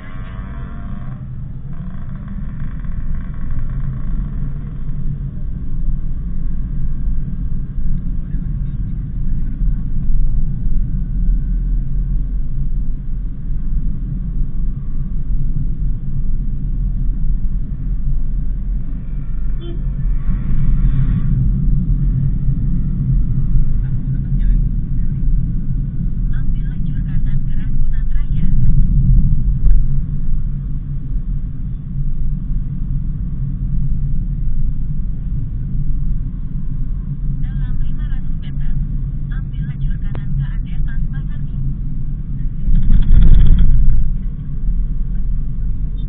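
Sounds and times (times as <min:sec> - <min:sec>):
road noise and engine rumble: 0:00.0 - 0:46.0.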